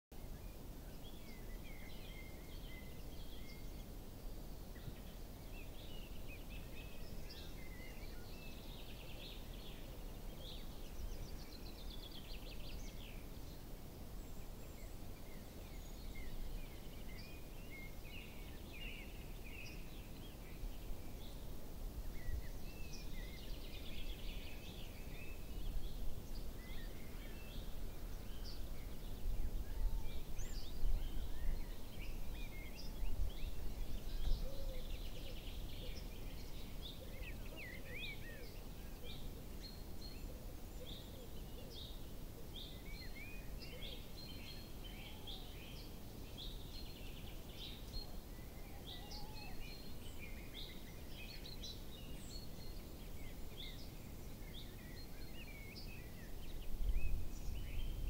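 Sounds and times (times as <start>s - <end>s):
small birds chirping and trilling: 0.1s - 58.0s.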